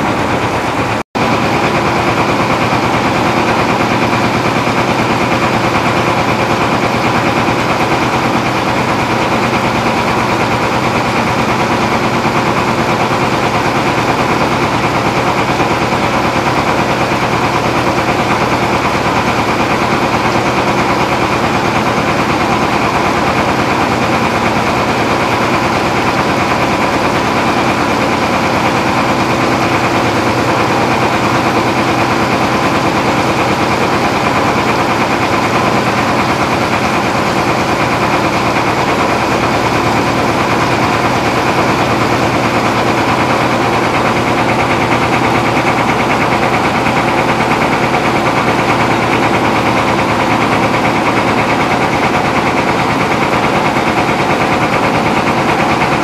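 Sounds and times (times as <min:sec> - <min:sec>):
boat engine chugging: 0:00.0 - 0:56.0.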